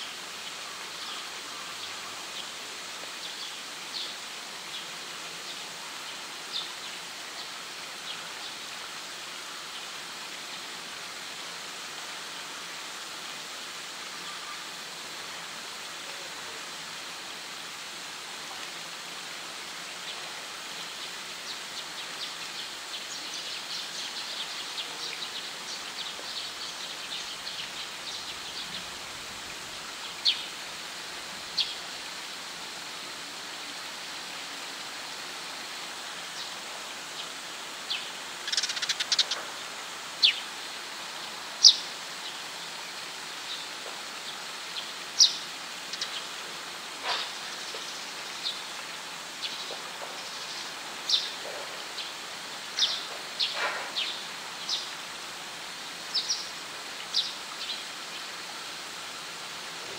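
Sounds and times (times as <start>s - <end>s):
running water hissing: 0.0s - 59.9s.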